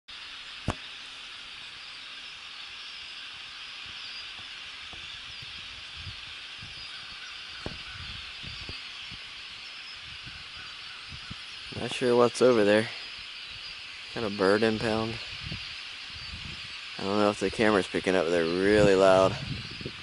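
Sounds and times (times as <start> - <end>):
flock of birds calling: 0.2 - 20.0.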